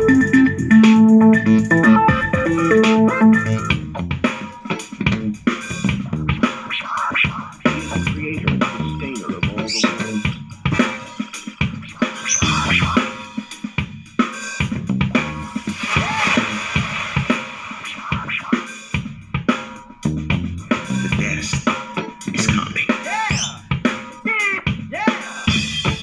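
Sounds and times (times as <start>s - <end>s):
music with drum beat: 0.0s - 26.0s.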